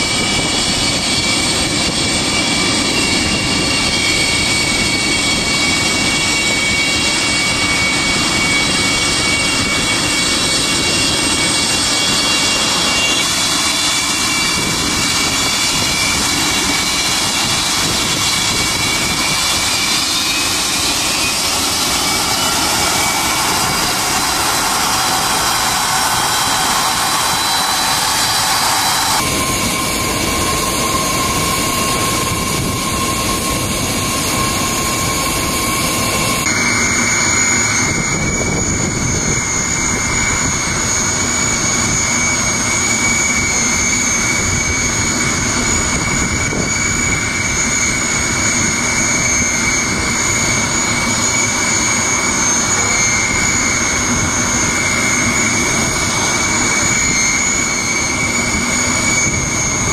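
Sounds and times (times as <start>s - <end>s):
jet turbine whine: 0.0s - 59.9s.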